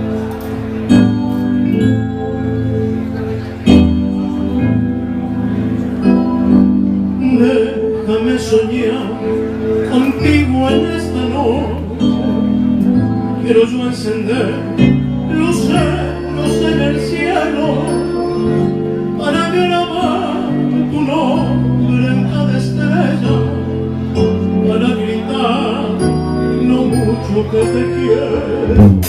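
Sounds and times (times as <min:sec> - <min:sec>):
electronic keyboard and bass: 0:00.0 - 0:29.0.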